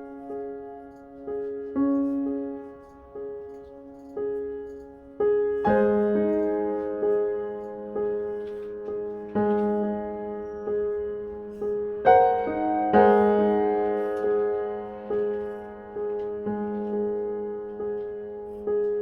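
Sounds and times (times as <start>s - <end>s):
slow solo piano music: 0.0s - 19.0s.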